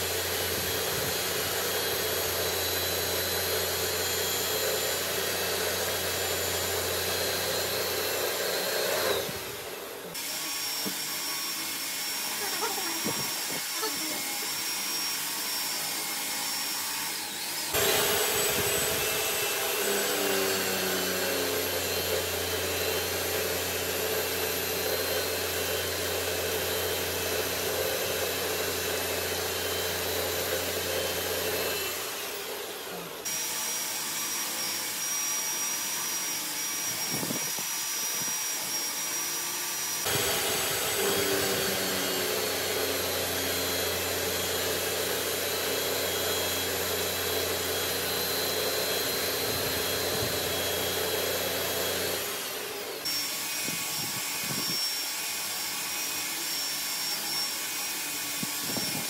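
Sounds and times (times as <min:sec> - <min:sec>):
milling machine cutting steel: 0:00.0 - 0:59.0.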